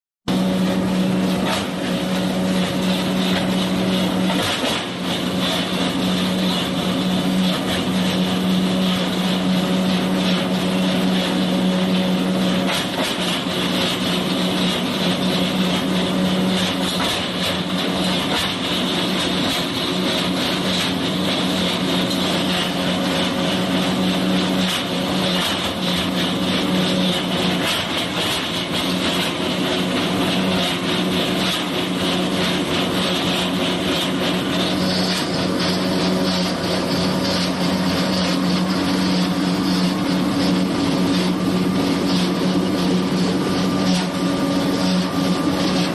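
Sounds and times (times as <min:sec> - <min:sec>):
wood crusher mechanical hum: 0:00.3 - 0:45.9.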